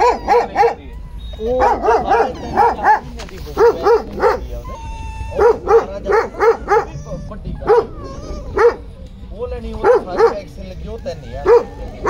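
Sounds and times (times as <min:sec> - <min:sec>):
puppies yapping: 0:00.0 - 0:12.0.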